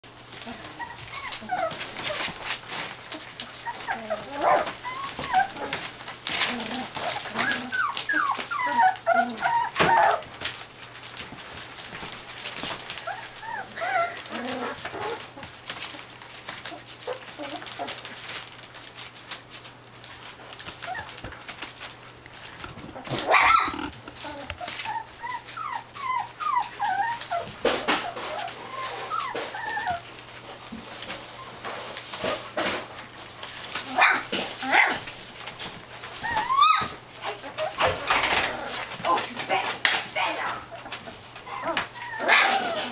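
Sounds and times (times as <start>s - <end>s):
puppies whining and squeaking: 0.3s - 42.9s.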